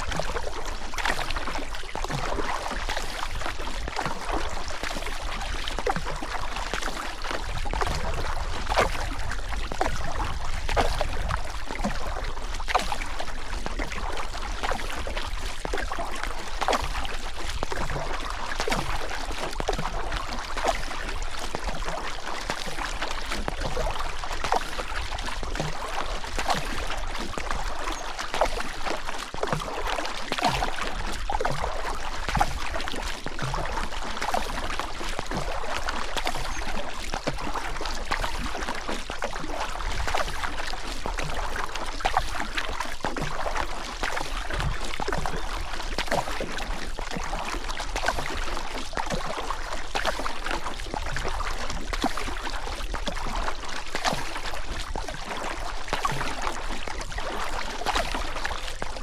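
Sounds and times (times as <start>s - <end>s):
rushing river water: 0.0s - 59.0s
small splashes: 0.0s - 59.0s.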